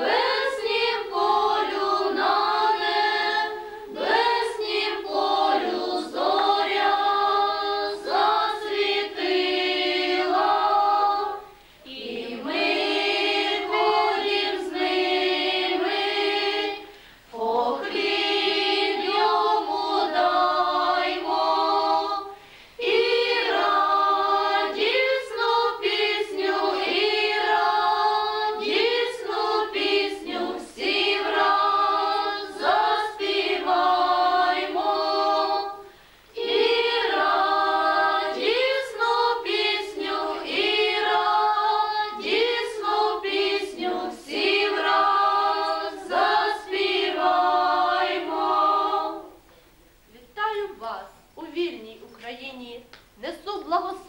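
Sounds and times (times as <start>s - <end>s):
women and girls singing carol: 0.0s - 54.0s.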